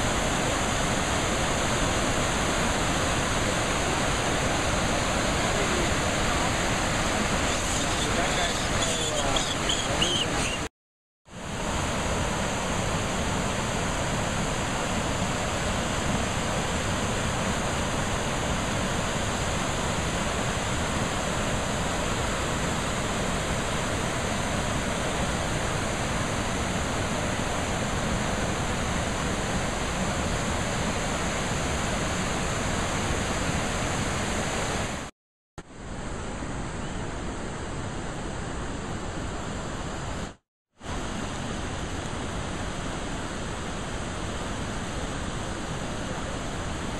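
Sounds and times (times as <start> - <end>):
river and waterfall rushing: 0.0 - 10.7, 11.4 - 35.1, 35.8 - 46.9.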